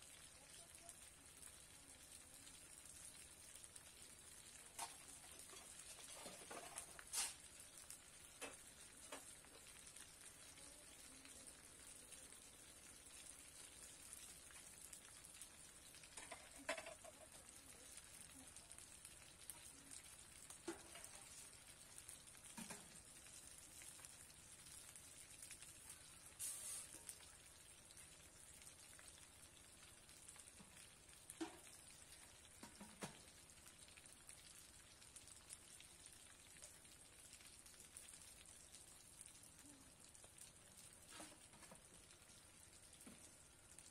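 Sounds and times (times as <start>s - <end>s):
food sizzling in oil: 0.0s - 43.9s.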